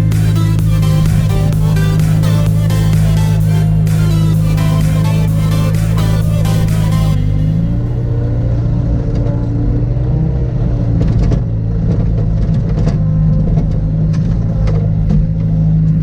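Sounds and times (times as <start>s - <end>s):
diesel engine running: 0.0s - 16.0s
hydraulic whine: 0.0s - 16.0s.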